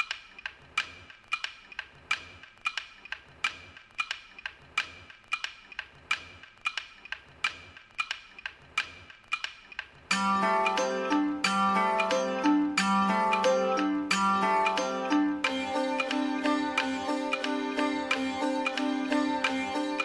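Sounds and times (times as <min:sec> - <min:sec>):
rhythmic percussion loop: 0:00.0 - 0:20.0.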